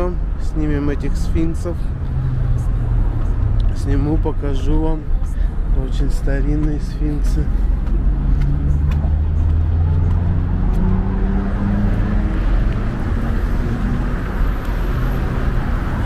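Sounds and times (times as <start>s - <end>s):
tyre and road noise: 0.0s - 16.0s
vehicle engine humming: 0.0s - 16.0s.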